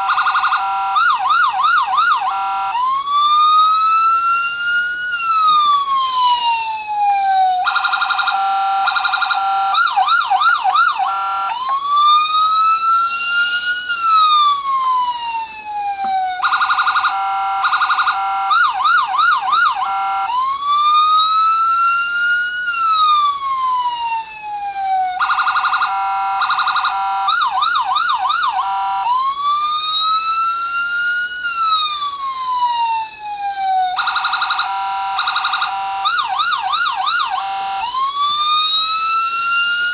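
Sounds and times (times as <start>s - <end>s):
police siren cycling tones: 0.0s - 39.9s.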